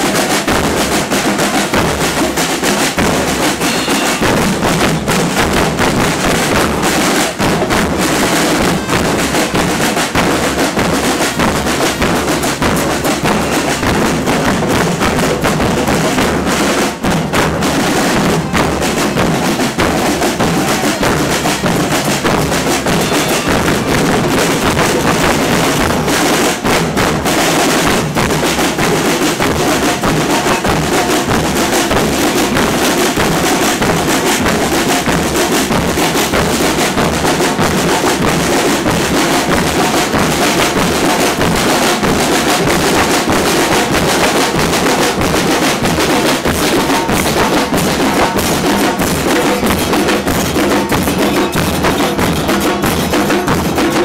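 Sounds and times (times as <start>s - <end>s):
drum troupe playing: 0.0s - 54.0s.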